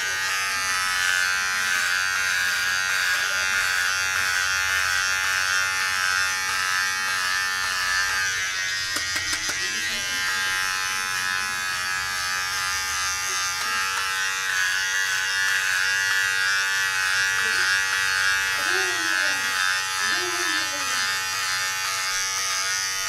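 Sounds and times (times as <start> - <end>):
hair trimmer buzzing: 0.0 - 23.0.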